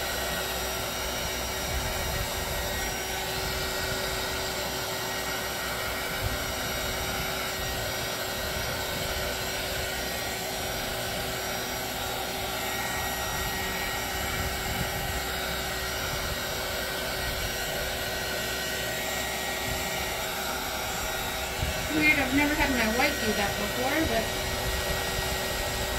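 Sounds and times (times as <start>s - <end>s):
heat gun blowing air: 0.0s - 25.9s.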